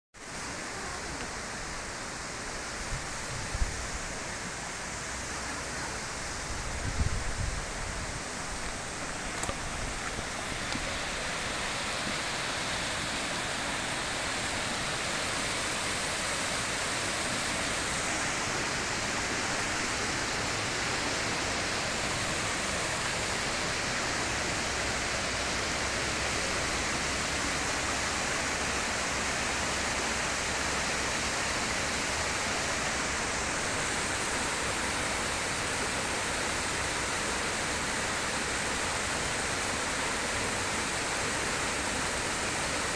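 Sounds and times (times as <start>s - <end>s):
river rushing over rocks: 0.2s - 42.9s.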